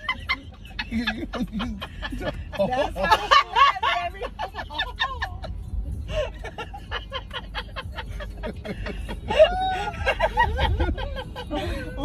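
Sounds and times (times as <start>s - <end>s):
car road rumble: 0.0s - 12.0s
people laughing: 0.0s - 12.0s.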